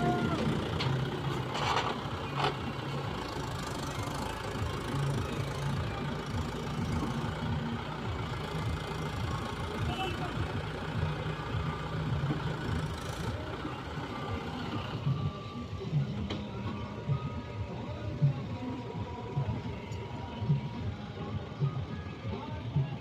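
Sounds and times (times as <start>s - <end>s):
heavy diesel engine rumbling: 0.0s - 23.0s.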